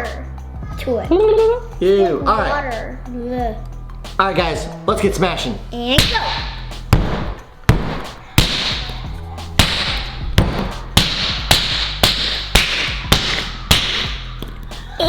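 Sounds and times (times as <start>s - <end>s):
background music with low beat: 0.0s - 15.0s.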